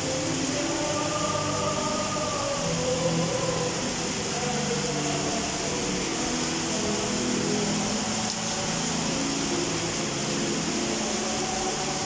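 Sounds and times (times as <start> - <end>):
heavy rain on rooftops: 0.0 - 12.0.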